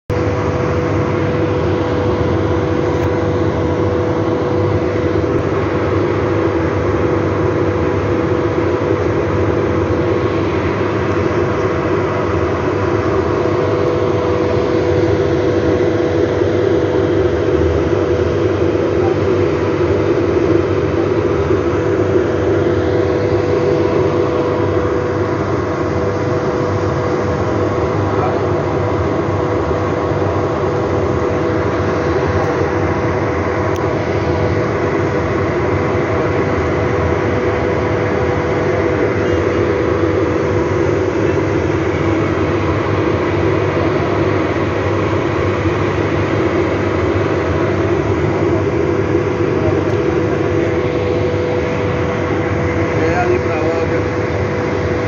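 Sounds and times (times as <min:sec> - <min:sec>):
steady mechanical hum: 0:00.1 - 0:55.0.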